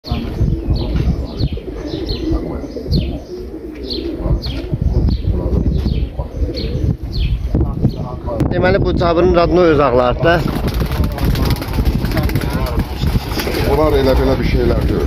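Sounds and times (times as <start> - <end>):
pigeons cooing: 0.1 - 8.5, 9.5 - 15.0.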